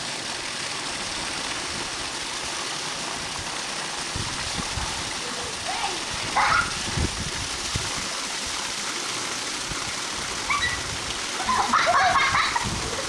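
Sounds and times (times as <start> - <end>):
water pouring and splashing: 0.0 - 13.0.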